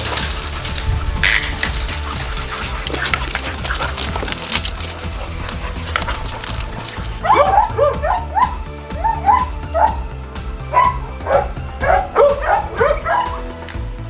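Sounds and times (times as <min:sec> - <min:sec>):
background music: 0:00.0 - 0:14.0
dog yipping: 0:01.5 - 0:13.7.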